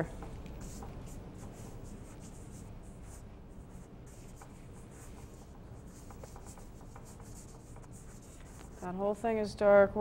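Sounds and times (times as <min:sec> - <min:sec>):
paintbrush stroking on canvas: 0:00.6 - 0:09.0.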